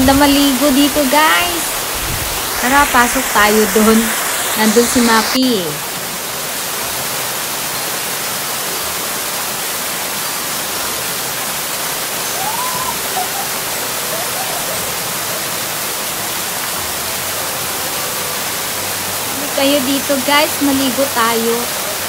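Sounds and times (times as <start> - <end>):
waterfall rushing into pool: 0.0 - 22.0.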